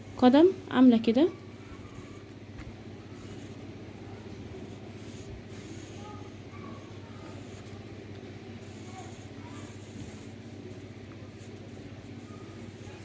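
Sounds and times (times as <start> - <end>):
steady low hum: 0.0 - 13.0
pencil scratching on paper: 1.3 - 13.0.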